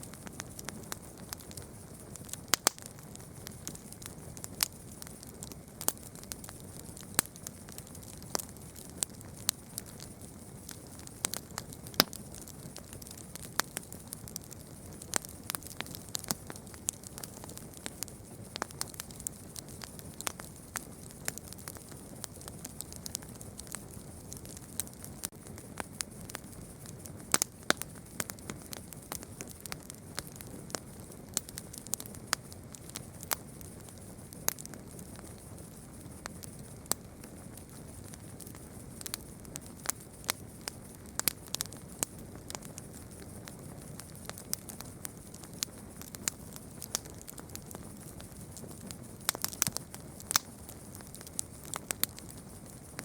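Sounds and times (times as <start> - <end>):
burning wood popping and snapping: 0.1 - 25.4, 27.3 - 35.4, 43.4 - 53.0.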